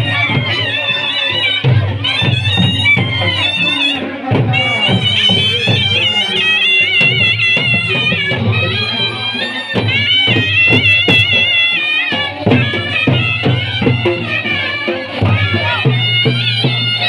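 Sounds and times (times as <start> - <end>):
drumming: 0.0 - 17.0
shrill reed wind instrument melody: 0.0 - 17.0.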